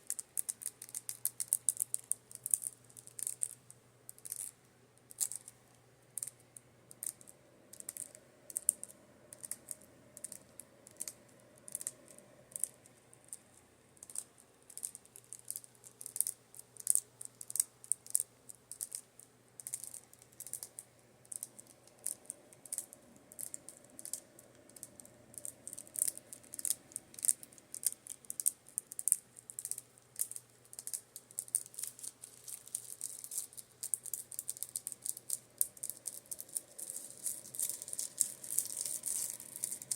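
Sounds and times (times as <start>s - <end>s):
oscillating fan humming: 4.7s - 16.6s, 19.7s - 39.9s.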